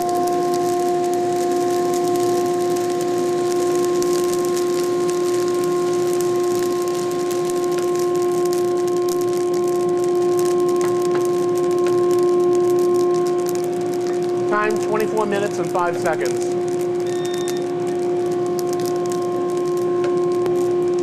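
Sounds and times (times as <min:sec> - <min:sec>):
coffee beans tumbling and crackling: 0:00.0 - 0:21.0
roaster motor and fan humming: 0:00.0 - 0:21.0.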